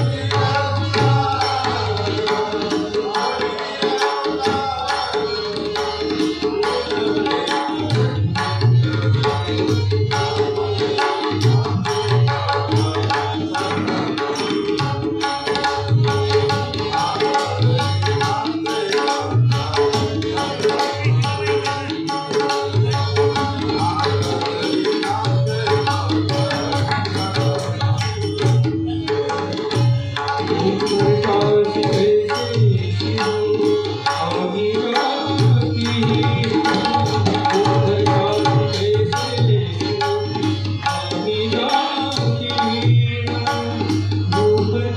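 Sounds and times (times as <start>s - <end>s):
hand drums playing rhythm: 0.0s - 44.9s.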